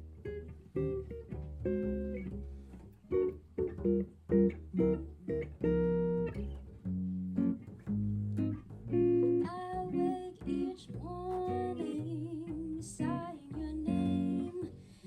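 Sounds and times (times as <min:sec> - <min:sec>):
bass notes: 0:00.0 - 0:15.0
jazz guitar playing: 0:00.0 - 0:15.0.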